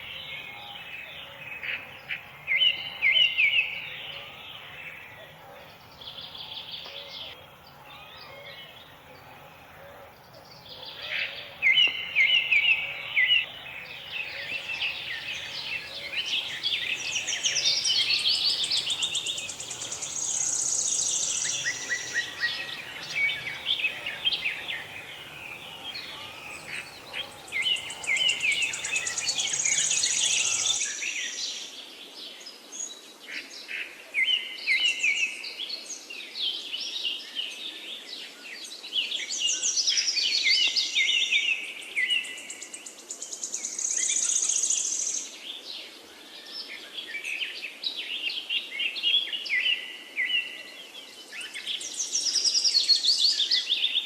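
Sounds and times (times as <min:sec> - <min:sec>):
songbirds chirping and singing: 0:00.0 - 0:54.0.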